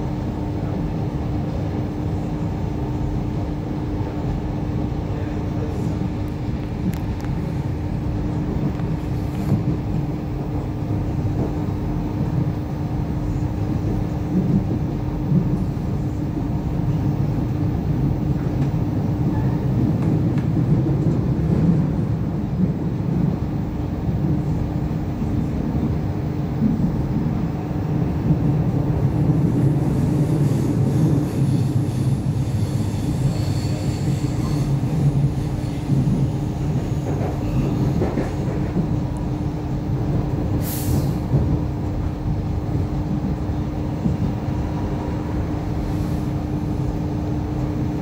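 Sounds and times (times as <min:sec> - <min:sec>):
constant train hum: 0:00.0 - 0:48.0
train rolling rumble: 0:00.0 - 0:48.0.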